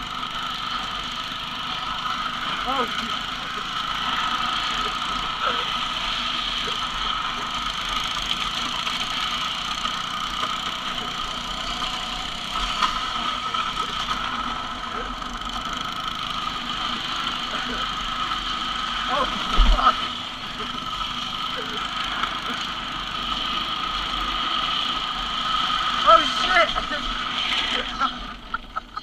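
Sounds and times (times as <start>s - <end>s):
dirt bike engine running: 0.0s - 29.0s
plastic wheels rolling on asphalt: 0.0s - 29.0s.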